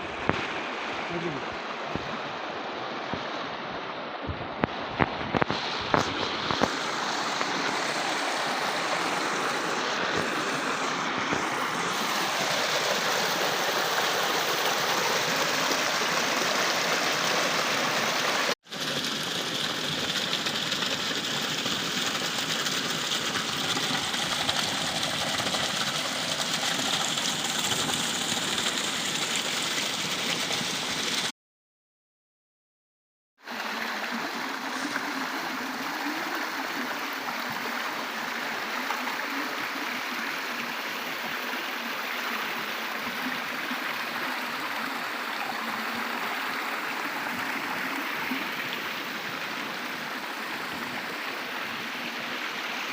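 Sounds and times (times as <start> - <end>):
water rushing: 0.0 - 31.3, 33.4 - 52.9.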